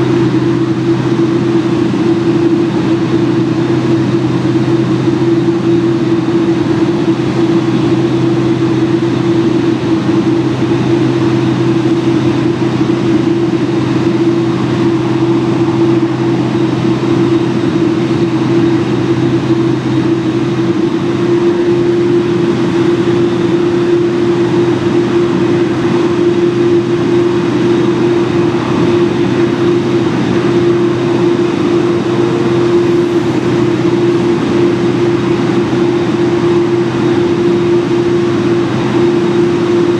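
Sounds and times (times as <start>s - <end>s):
loud machinery drone: 0.0s - 39.9s
low hum: 0.0s - 39.9s.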